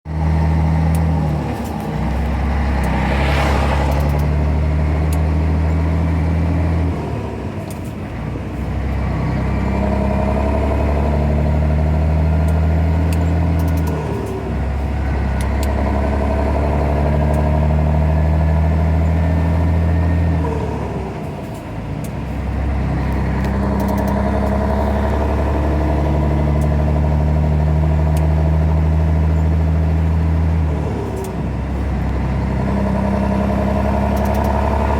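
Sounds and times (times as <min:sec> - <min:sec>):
truck diesel engine under load: 0:00.0 - 0:34.9.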